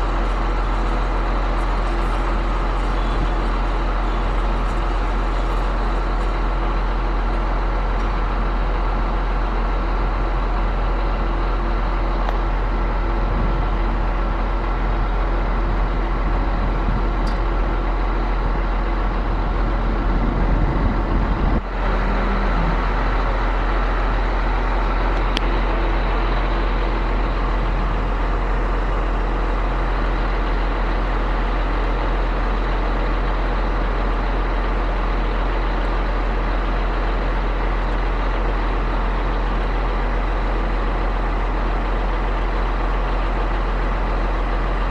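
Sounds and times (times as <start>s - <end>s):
concrete pump diesel engine drone: 0.0s - 44.9s.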